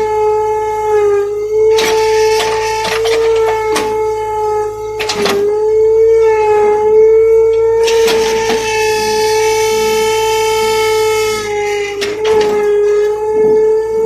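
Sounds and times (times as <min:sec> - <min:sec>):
excavator high whine: 0:00.0 - 0:14.0.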